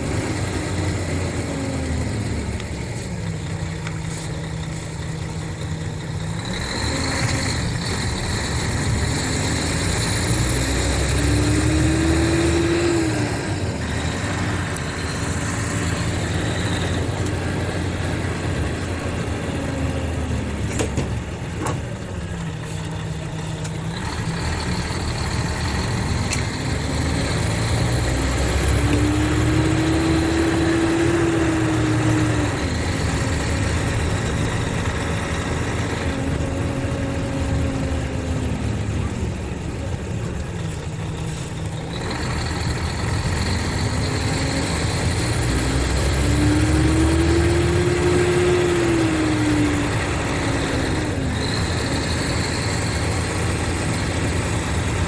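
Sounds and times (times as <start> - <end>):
diesel bus engine revving: 0.0 - 55.0.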